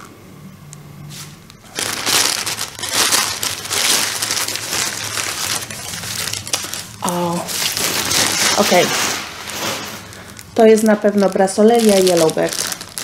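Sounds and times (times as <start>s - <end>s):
packing paper rustling and crinkling: 1.1s - 13.0s.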